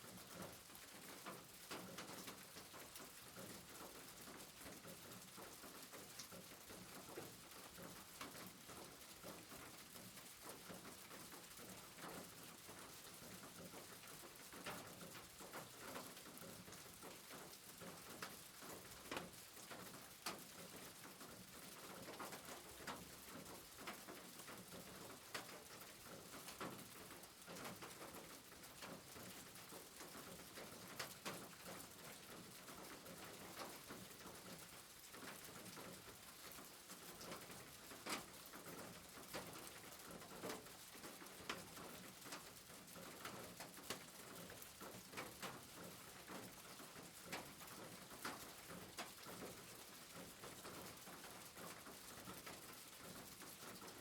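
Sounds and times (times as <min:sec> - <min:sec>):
faint steady rain: 0:00.0 - 0:54.0.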